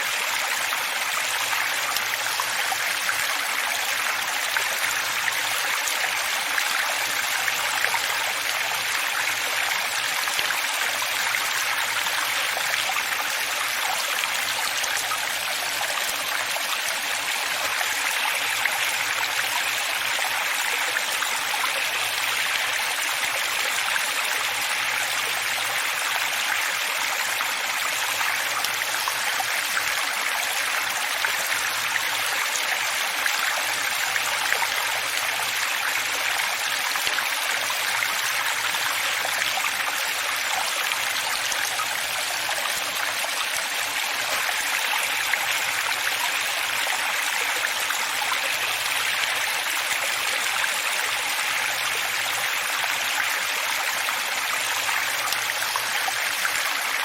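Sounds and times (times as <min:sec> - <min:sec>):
running water flowing: 0:00.0 - 0:57.0.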